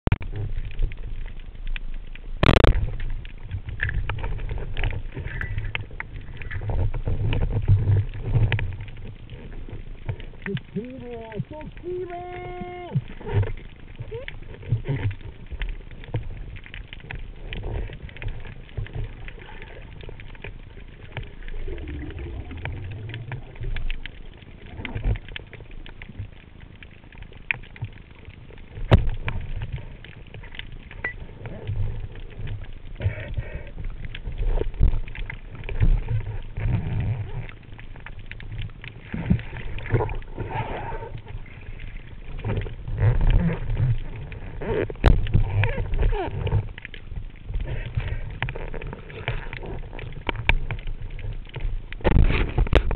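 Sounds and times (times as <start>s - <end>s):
underwater rumble of water movement: 0.1s - 52.9s.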